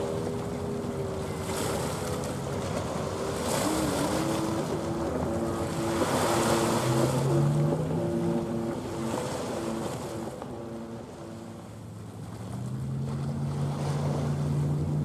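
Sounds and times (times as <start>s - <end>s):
faint steady tones: 0.0s - 15.0s
small waves washing on shore: 0.0s - 15.0s.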